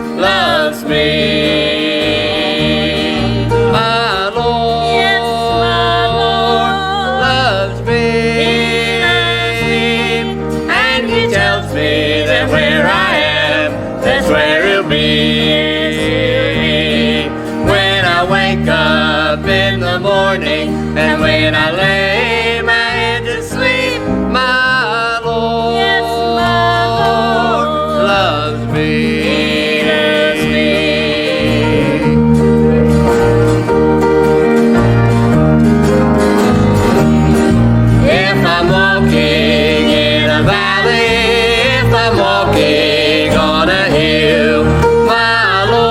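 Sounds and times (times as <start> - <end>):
person singing with vibrato: 0.0 - 32.5, 38.0 - 45.9
instrumental accompaniment: 0.0 - 45.9
steady bass line: 0.0 - 45.9.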